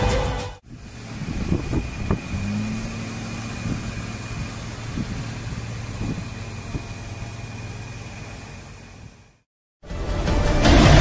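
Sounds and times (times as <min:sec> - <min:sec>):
diesel engine running: 0:00.3 - 0:09.5.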